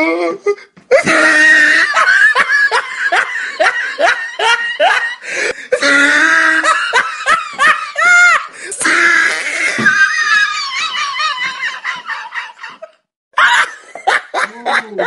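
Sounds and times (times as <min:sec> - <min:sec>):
person laughing hard: 0:00.9 - 0:15.0.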